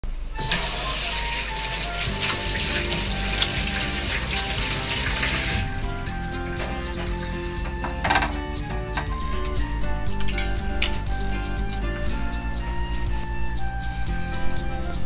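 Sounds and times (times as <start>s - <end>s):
light background melody: 0.3s - 15.0s.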